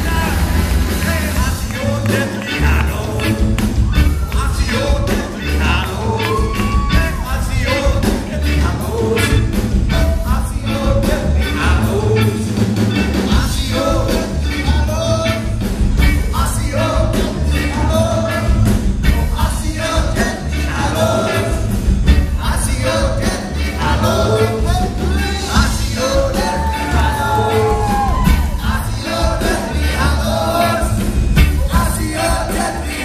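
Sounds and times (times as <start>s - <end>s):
man singing into microphone: 0.0s - 12.6s, 16.2s - 33.0s
drum kit beat: 0.0s - 33.0s.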